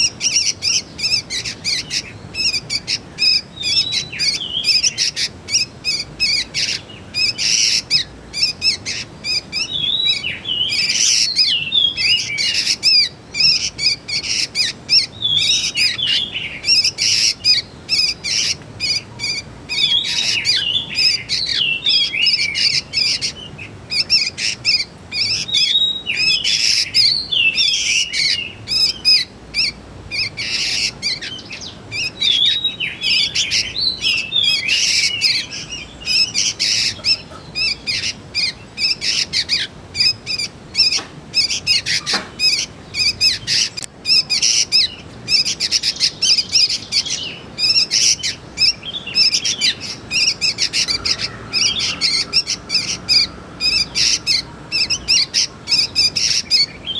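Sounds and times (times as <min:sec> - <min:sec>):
bird high chirps: 0:00.0 - 0:56.9.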